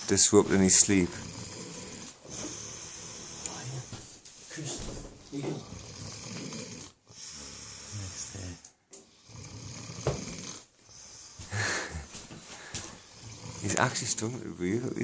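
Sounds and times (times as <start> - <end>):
person snoring: 0.8 - 4.0, 5.3 - 12.1, 12.7 - 15.0.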